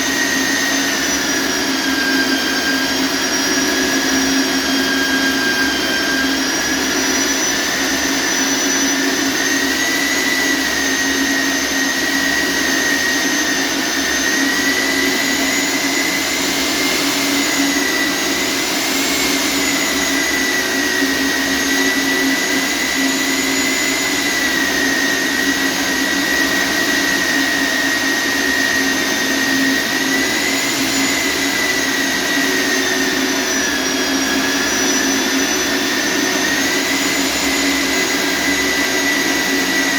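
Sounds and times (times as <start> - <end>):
electric core drill whining: 0.0 - 39.9.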